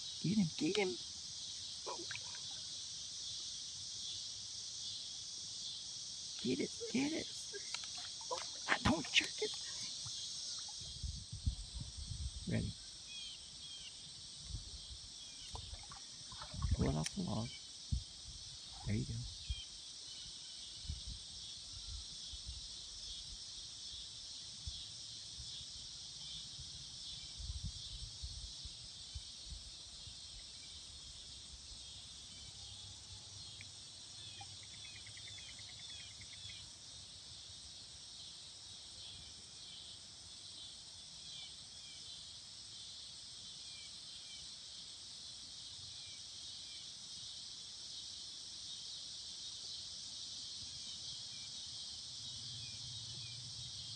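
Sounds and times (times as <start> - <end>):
high-pitched insect chorus: 0.0 - 53.9.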